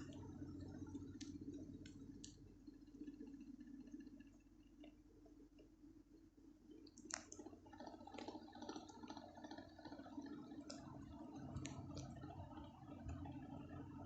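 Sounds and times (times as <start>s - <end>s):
ceiling fan humming: 0.0s - 14.0s
light clicks and ticks: 0.0s - 14.0s.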